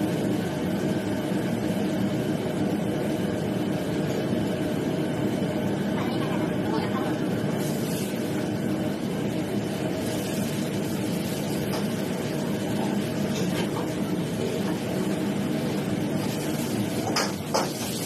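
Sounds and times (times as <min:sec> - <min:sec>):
extraction hood running: 0:00.0 - 0:18.0.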